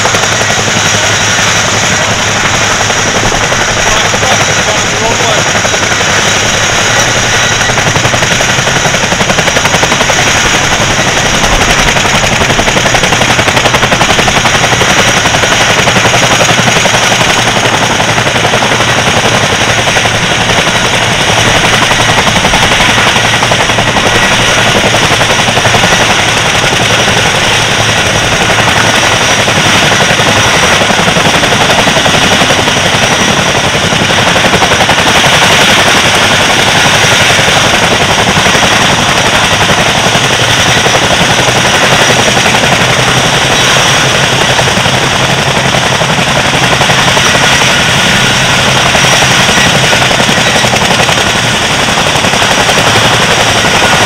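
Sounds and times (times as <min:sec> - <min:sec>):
aircraft radial engines rumbling: 0:00.0 - 0:54.0.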